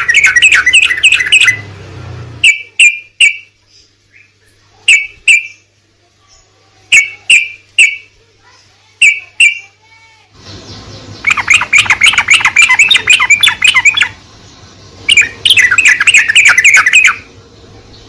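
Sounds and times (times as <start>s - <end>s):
bulbul calls: 0.0s - 1.7s, 2.4s - 5.7s, 6.4s - 8.2s, 9.0s - 9.8s, 10.4s - 18.0s
bird rapid chirping notes: 0.0s - 5.7s, 6.9s - 8.2s, 9.0s - 9.8s, 10.4s - 18.0s
background hiss and hum: 0.0s - 18.0s.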